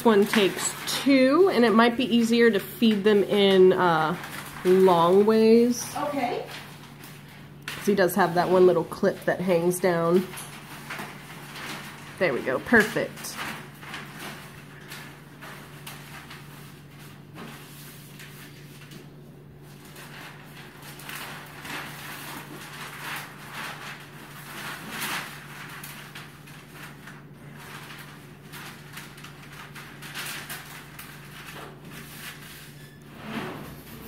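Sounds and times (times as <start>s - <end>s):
paper rustling and scraping: 0.0s - 34.0s.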